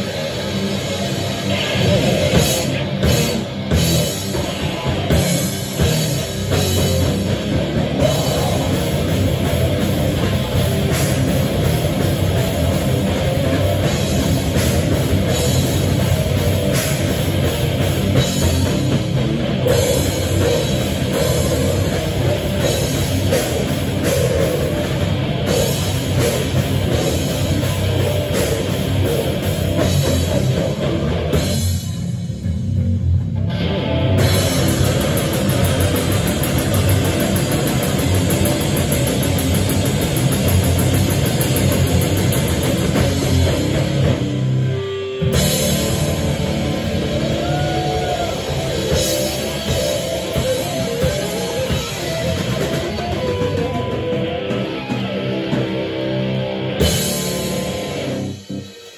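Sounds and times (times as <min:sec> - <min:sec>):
bass guitar: 0:00.0 - 0:58.9
distorted electric guitars: 0:00.0 - 0:58.9
drum kit: 0:00.0 - 0:58.9.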